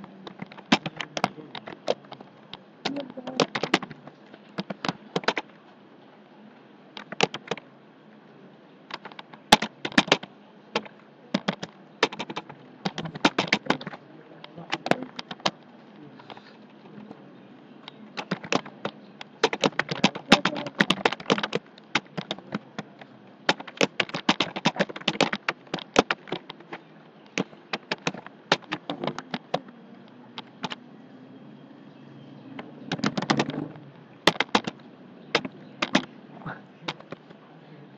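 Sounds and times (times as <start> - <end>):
keyboard typing: 0.0 - 5.6, 7.0 - 7.6, 8.9 - 17.2, 17.8 - 30.8, 32.6 - 36.2, 36.8 - 37.4.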